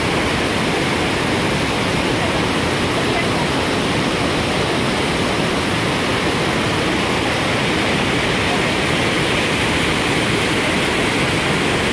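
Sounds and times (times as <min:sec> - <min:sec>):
river water rushing over rocks: 0:00.0 - 0:11.9.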